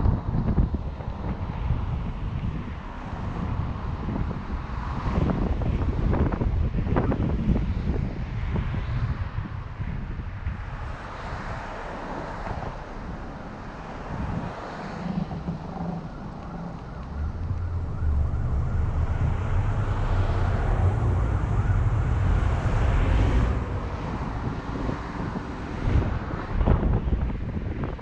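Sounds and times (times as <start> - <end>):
road and engine rumble: 0.0 - 28.0
wind buffeting microphone: 0.0 - 28.0.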